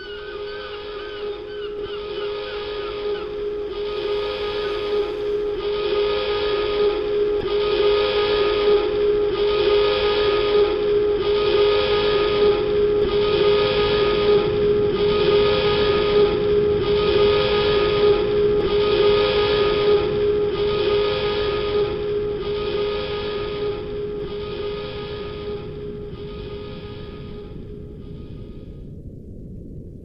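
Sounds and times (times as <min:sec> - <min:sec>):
buzzy alarm blast: 0:00.0 - 0:28.6
steady alarm tone: 0:00.0 - 0:28.7.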